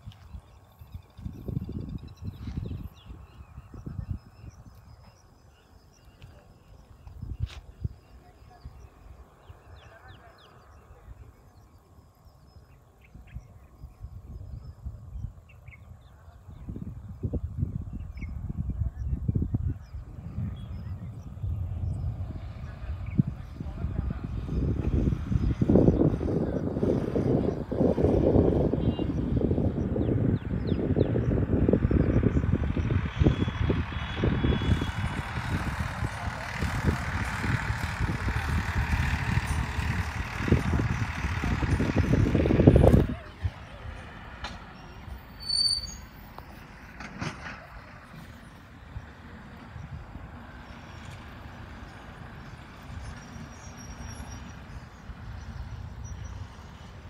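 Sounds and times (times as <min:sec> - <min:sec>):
birds chirping: 0:00.0 - 0:57.0
low uneven rumble: 0:00.0 - 0:57.0
wind buffeting microphone: 0:00.0 - 0:57.0.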